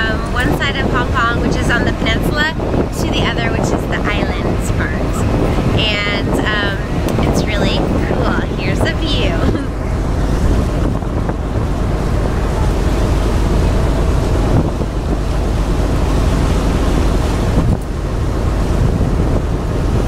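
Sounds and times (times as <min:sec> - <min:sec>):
choppy water rushing: 0:00.0 - 0:20.0
low rumble: 0:00.0 - 0:20.0
wind buffeting microphone: 0:00.0 - 0:20.0.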